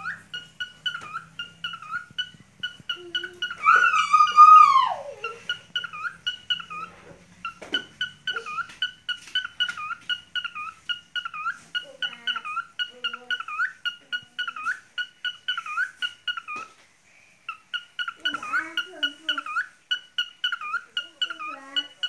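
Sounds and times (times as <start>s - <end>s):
cockatiel chirping: 0.0s - 16.8s, 17.4s - 22.0s.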